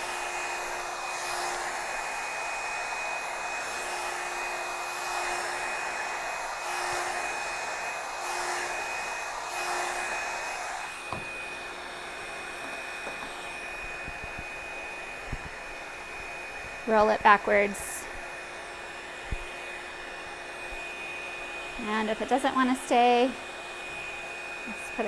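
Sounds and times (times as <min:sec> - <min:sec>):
hair dryer whine and air rush: 0:00.0 - 0:25.0.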